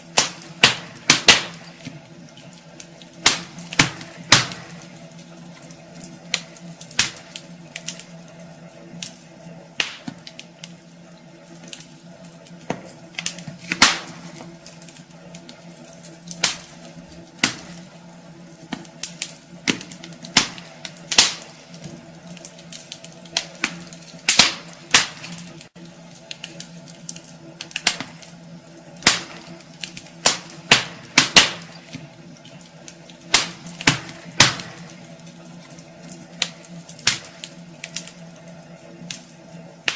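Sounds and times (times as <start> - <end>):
faint steady hum: 0.0 - 39.9
logs crackling and popping: 0.0 - 39.9.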